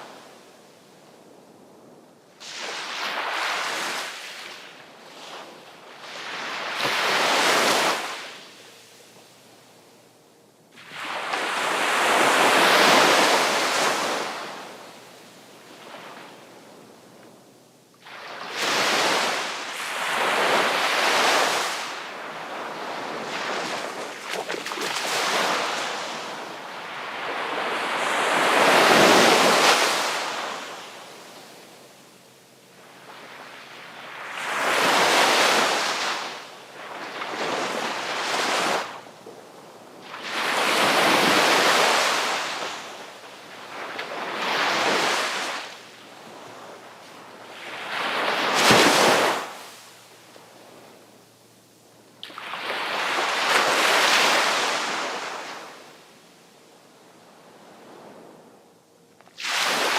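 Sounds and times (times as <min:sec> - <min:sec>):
sea waves breaking on shore: 0:02.4 - 0:09.4, 0:10.8 - 0:17.0, 0:18.0 - 0:32.0, 0:32.7 - 0:51.2, 0:52.1 - 0:56.2, 0:59.3 - 0:59.9.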